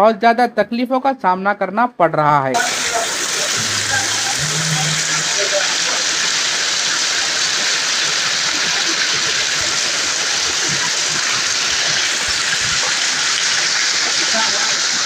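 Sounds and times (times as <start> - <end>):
floodwater rushing: 2.6 - 15.0.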